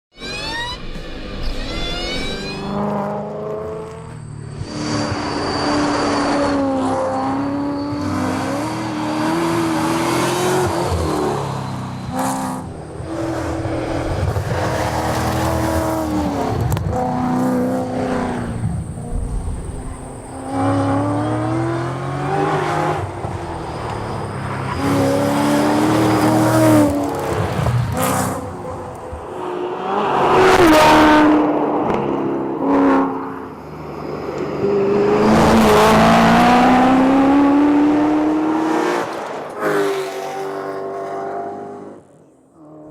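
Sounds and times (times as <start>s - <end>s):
rally car engines revving through gears: 2.2s - 42.9s.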